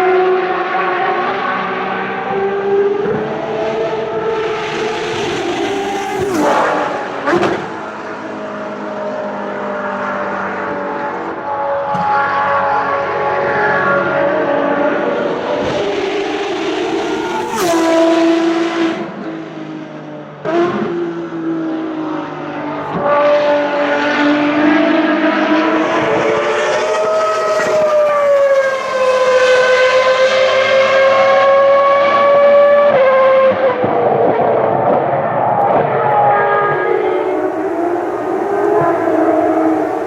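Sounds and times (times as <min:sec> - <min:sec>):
racing car engines passing: 0:00.0 - 0:40.0.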